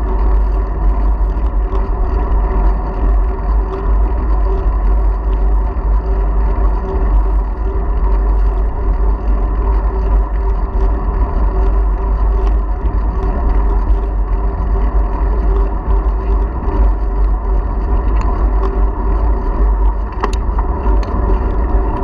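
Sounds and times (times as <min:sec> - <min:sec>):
constant hum from bike ride: 0:00.0 - 0:22.0
wind buffeting microphone: 0:00.0 - 0:22.0.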